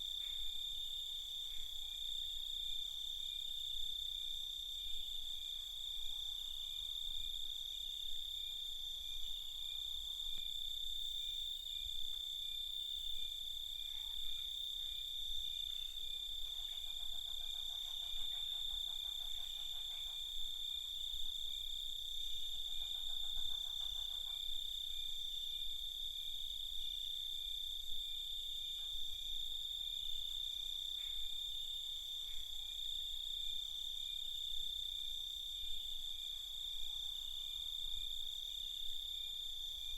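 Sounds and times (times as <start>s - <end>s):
low rapidly pulsing insect call: 0.0s - 39.9s.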